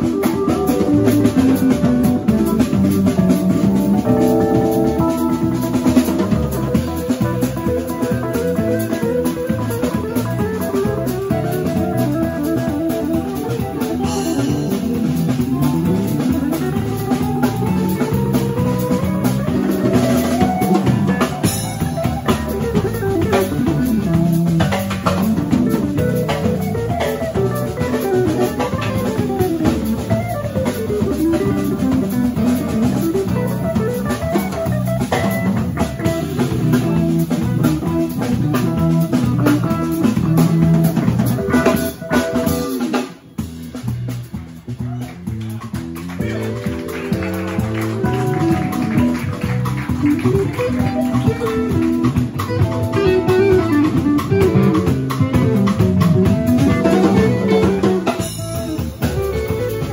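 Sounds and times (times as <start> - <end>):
electric guitar runs: 0.0 - 42.9, 45.7 - 59.9
drum kit: 0.0 - 59.9
electric bass: 0.0 - 59.9.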